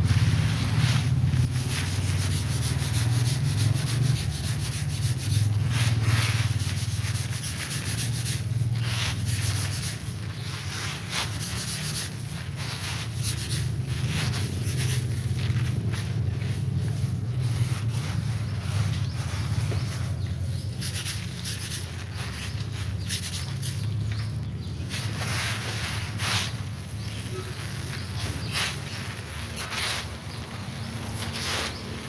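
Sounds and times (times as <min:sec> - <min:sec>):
rough rubbing and swishing: 0:00.0 - 0:32.0.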